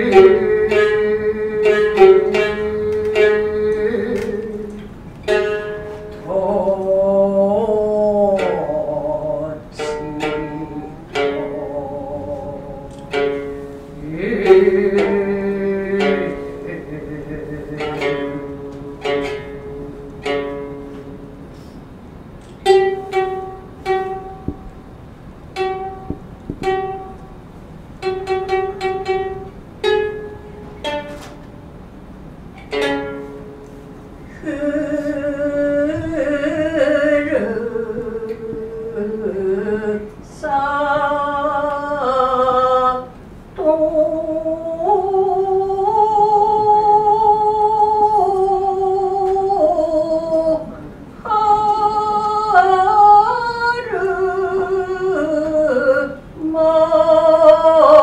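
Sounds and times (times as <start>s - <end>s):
shamisen plucked notes: 0.0s - 21.7s, 22.5s - 58.0s.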